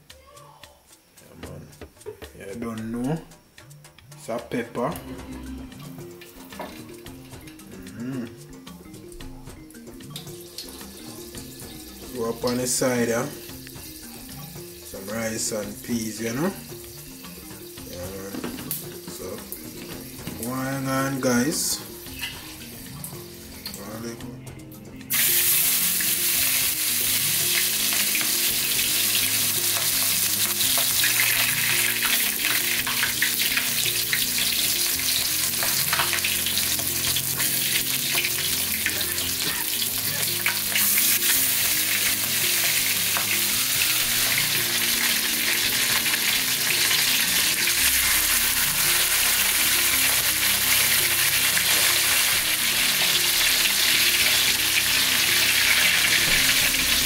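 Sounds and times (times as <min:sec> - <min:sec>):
fish frying in hot oil: 0:10.1 - 0:24.0, 0:25.1 - 0:57.0.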